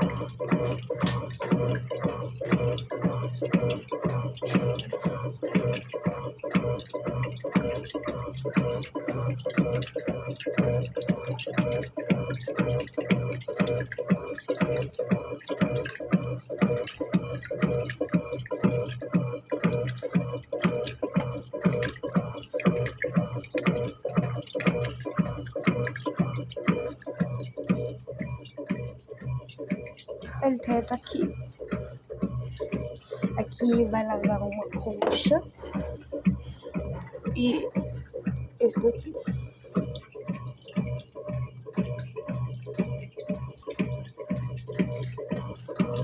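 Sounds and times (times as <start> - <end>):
agitator churning water: 0.0 - 46.0
washing machine motor humming: 0.0 - 46.0.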